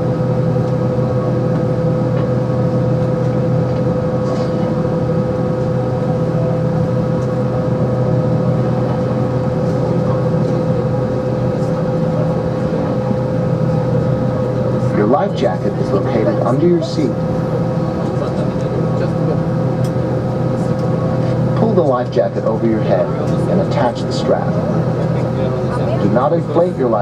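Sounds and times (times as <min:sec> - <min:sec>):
aircraft cabin drone: 0:00.0 - 0:27.0.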